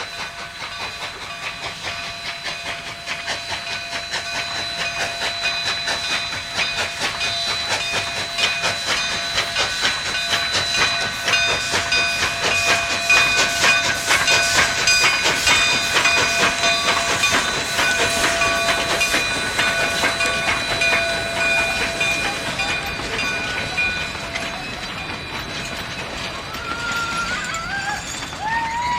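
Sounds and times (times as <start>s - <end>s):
steam hissing: 0.0s - 28.9s
steam train passing: 0.0s - 28.9s
rapid clicking of wheels: 0.5s - 28.9s.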